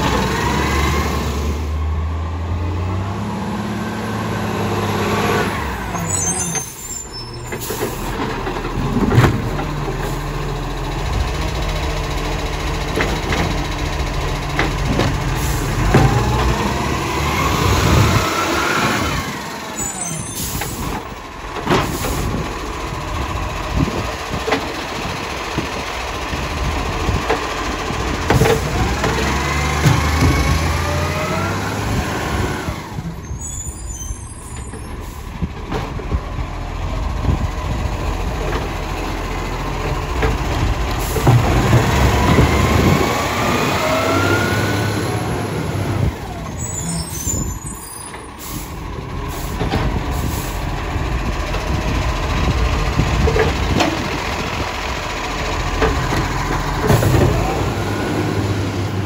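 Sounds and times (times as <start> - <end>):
garbage truck diesel engine revving: 0.0 - 59.0.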